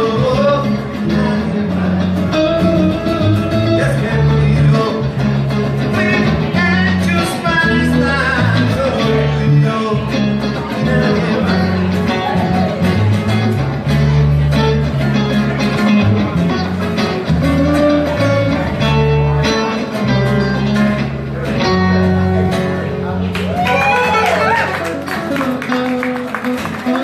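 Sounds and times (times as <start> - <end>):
guitar-led band music: 0.0 - 27.0
low bass notes: 0.0 - 27.0.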